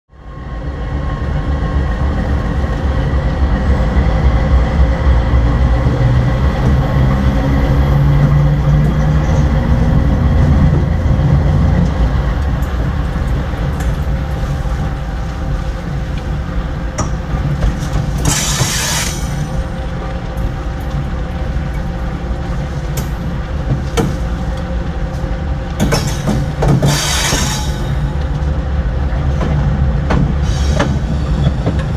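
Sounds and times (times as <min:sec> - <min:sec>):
locomotive engine drone: 0:00.1 - 0:31.9.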